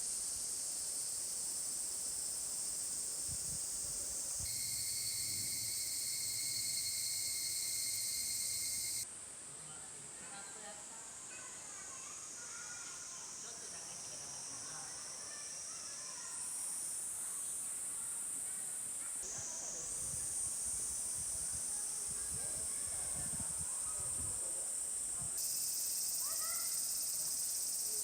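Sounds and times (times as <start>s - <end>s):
insects buzzing: 0.0s - 9.1s, 11.2s - 28.0s.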